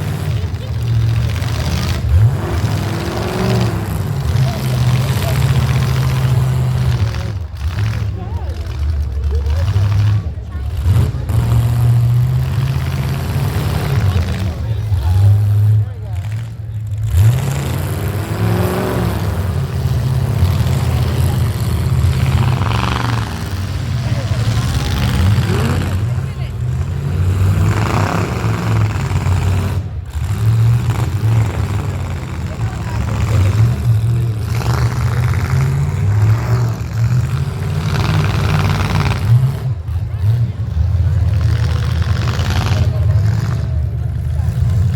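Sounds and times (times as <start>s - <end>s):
engines revving: 0.0s - 44.9s.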